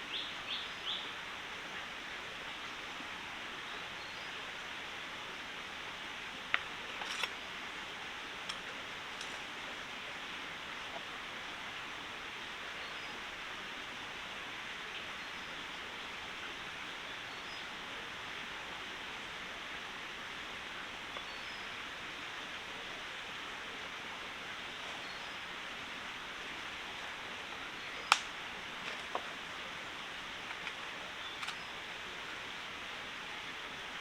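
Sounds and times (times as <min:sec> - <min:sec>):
forest stream rushing: 0:00.0 - 0:34.0.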